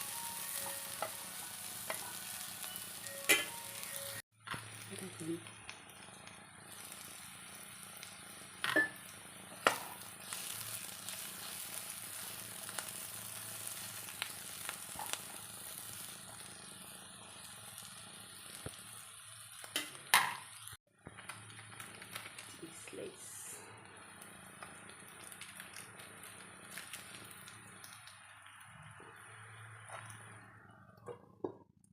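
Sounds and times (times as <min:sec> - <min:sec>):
vegetables sizzling in a frying pan: 0:00.0 - 0:30.8.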